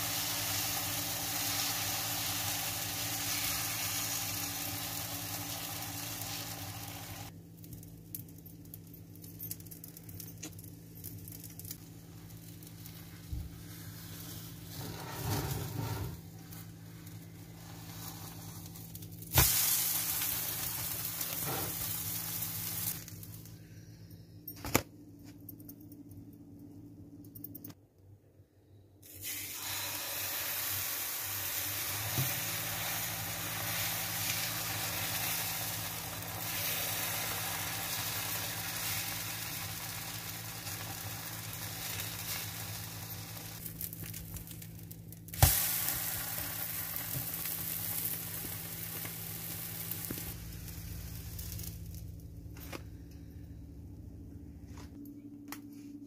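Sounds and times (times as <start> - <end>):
batter sizzling in frying pan: 0.0 - 8.8, 10.7 - 23.5, 29.0 - 52.5.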